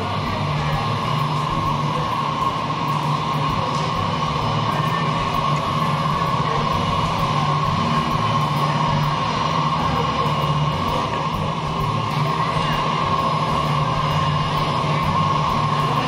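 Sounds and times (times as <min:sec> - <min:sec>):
jet engines whining: 0:00.0 - 0:16.0
lounge music: 0:00.0 - 0:16.0.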